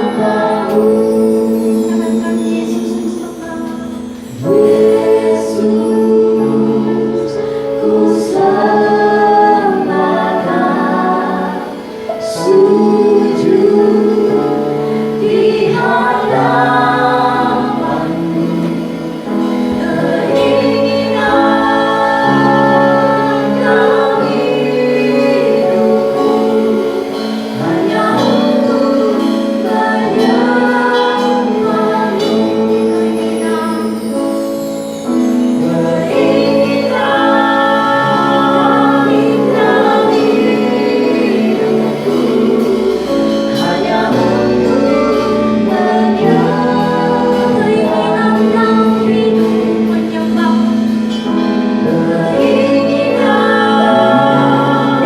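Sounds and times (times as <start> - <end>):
sustained instrumental accompaniment: 0.0 - 55.0
women singing worship music: 0.0 - 55.0.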